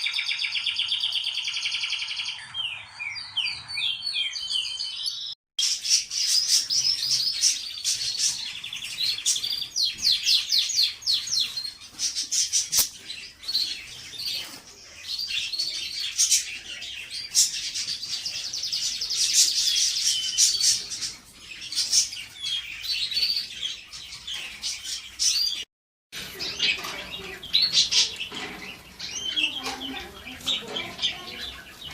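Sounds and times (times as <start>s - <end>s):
canaries singing: 0.0s - 31.9s.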